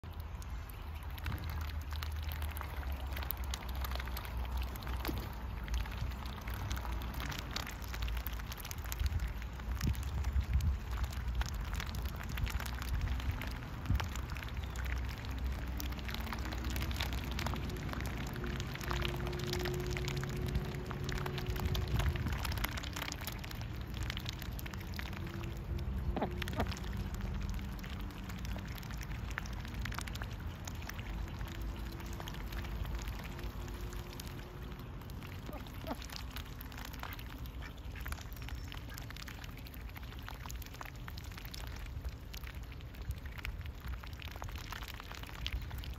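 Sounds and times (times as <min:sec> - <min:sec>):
ducks dabbling in mud: 0:00.0 - 0:45.9.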